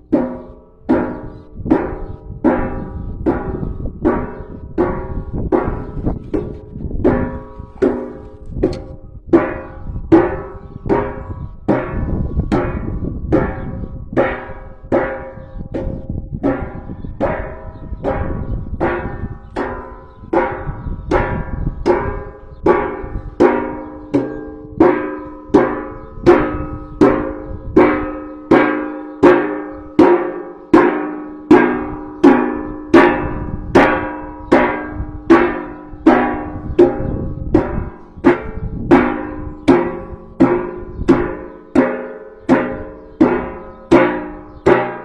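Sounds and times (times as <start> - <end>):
pitched drum beats: 0.0 - 45.0.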